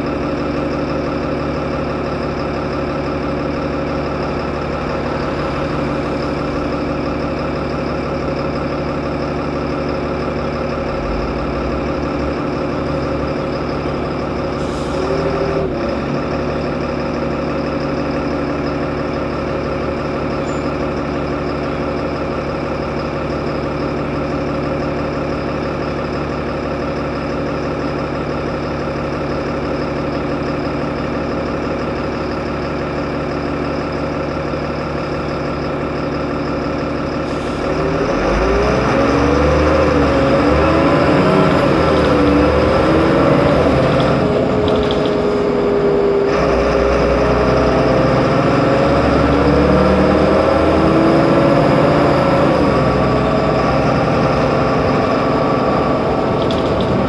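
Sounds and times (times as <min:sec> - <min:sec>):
bus engine idling and revving: 0:00.0 - 0:57.0.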